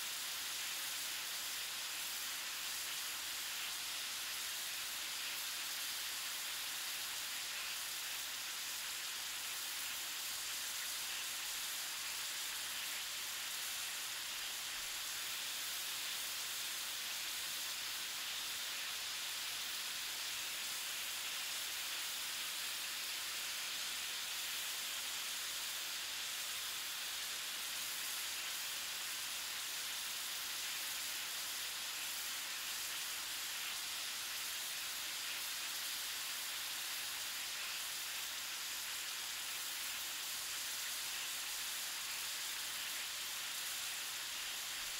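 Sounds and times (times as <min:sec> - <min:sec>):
cooking sizzle on a stove: 0:00.0 - 0:44.9.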